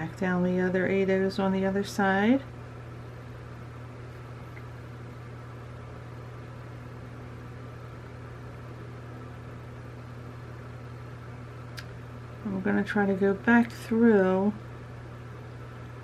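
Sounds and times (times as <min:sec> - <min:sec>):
low room hum with hiss: 0:00.0 - 0:16.0.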